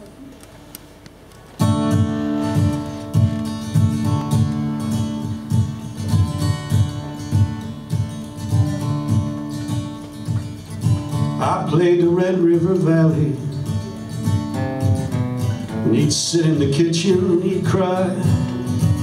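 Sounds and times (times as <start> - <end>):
acoustic guitar playing: 1.4 - 19.0.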